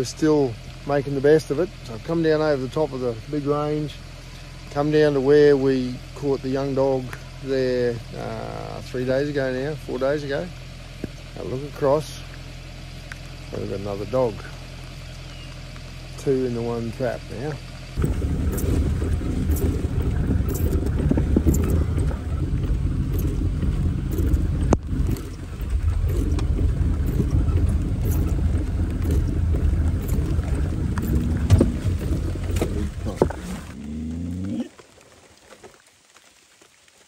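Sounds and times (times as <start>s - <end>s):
vehicle engine running: 0.0s - 34.6s.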